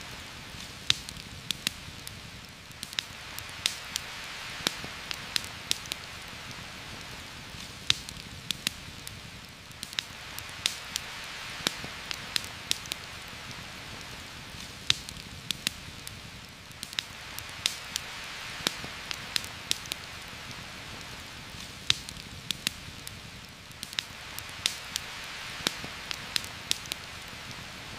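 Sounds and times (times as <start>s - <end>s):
campfire crackling: 0.0s - 27.9s
steady rain hiss: 0.0s - 27.9s.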